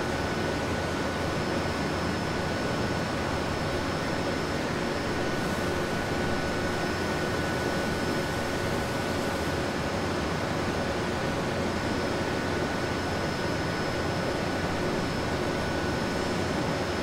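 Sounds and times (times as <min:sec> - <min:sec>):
ventilation and machinery rush: 0:00.0 - 0:17.0.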